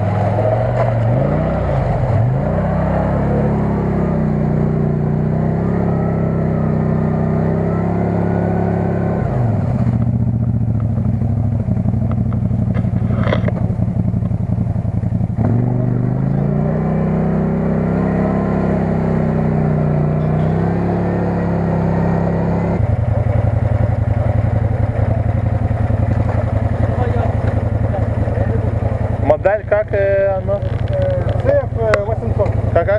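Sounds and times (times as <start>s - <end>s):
engine running under load: 0.0s - 32.9s.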